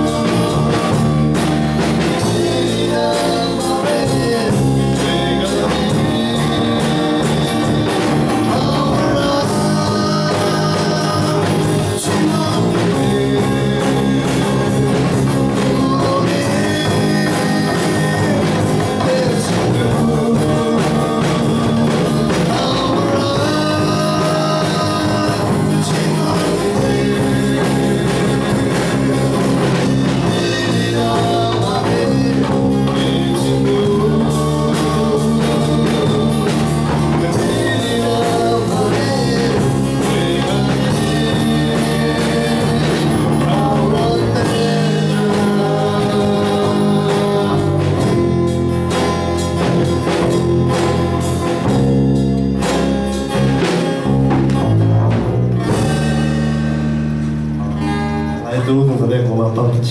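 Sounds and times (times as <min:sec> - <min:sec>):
man singing into a microphone: 0:00.0 - 0:49.0
acoustic guitar strumming: 0:00.0 - 0:59.9.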